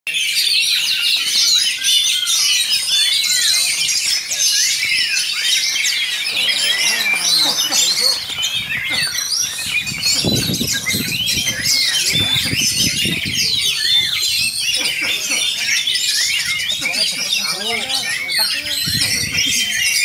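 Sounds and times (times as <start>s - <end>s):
songbirds chirping and trilling: 0.1s - 20.0s.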